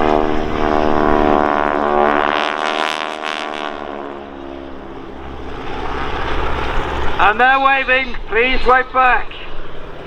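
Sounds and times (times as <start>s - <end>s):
propeller biplane flying past: 0.0s - 10.0s.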